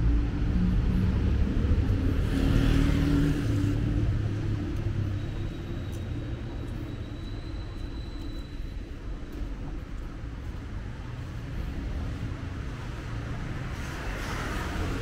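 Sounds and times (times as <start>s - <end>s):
background traffic rumble: 0.0s - 15.0s.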